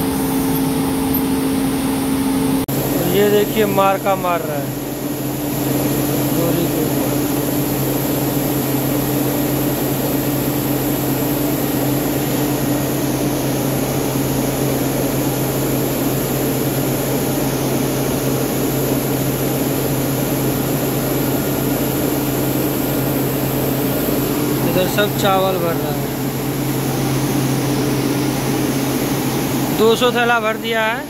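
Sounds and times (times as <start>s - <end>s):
constant low hum: 0.0s - 31.0s
mill machinery droning: 0.0s - 31.0s.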